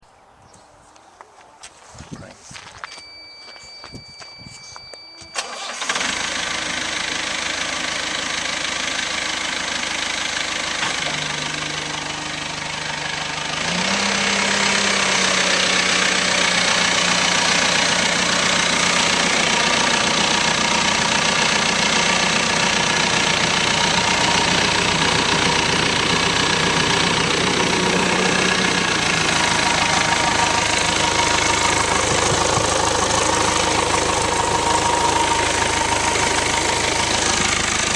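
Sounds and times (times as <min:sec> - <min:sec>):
diesel engine running: 0:02.6 - 0:37.9.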